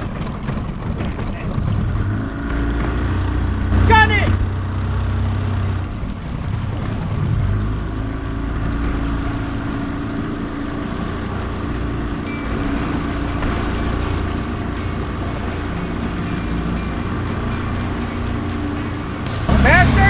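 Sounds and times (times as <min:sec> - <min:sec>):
motorboat engine at full throttle: 0:00.0 - 0:20.0.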